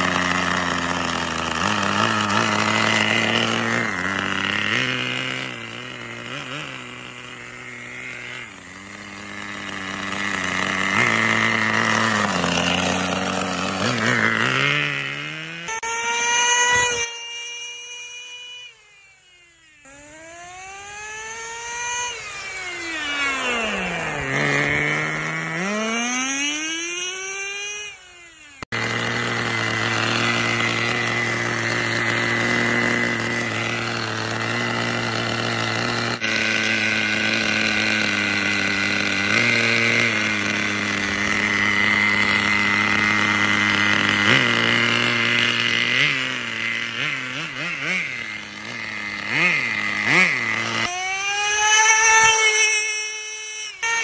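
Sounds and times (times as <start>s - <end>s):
race car engine revving: 0.0s - 18.8s, 19.8s - 54.0s.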